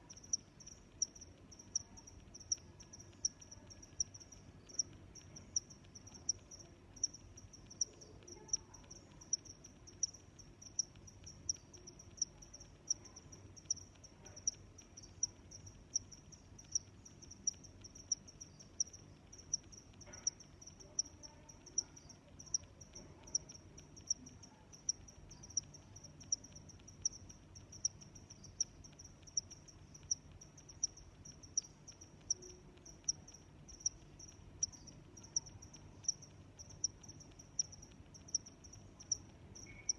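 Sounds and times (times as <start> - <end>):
cricket chirping: 0.0 - 39.9
faint low background noise: 0.0 - 39.9.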